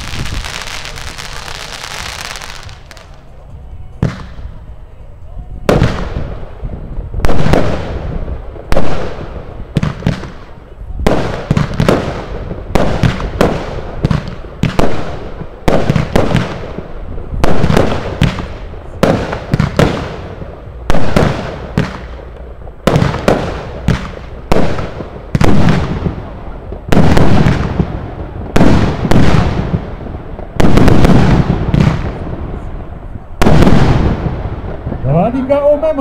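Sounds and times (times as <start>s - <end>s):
firework bangs: 0.0s - 3.3s, 3.9s - 4.7s, 5.6s - 36.0s.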